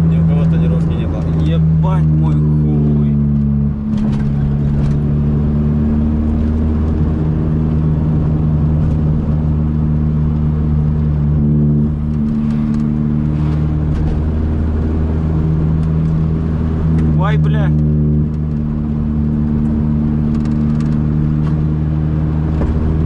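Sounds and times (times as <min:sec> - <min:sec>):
car exhaust drone: 0:00.0 - 0:23.0.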